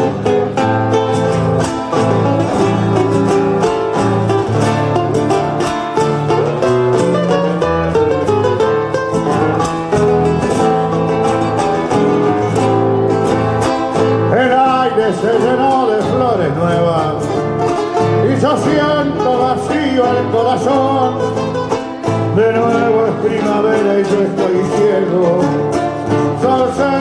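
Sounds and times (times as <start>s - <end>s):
bass line: 0.0s - 27.0s
plucked and strummed guitars: 0.0s - 27.0s.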